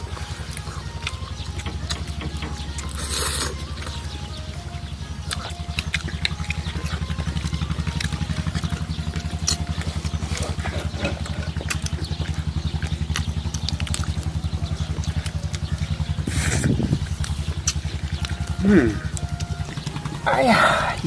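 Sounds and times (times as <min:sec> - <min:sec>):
person eating with wet smacks: 0:00.0 - 0:04.0, 0:05.2 - 0:20.1
engine idling: 0:00.0 - 0:21.0.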